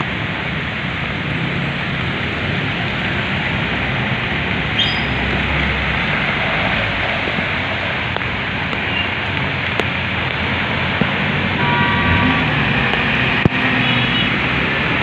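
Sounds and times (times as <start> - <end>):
bus engine rumbling: 0.0 - 15.0
heavy rain on wet road: 0.0 - 15.0.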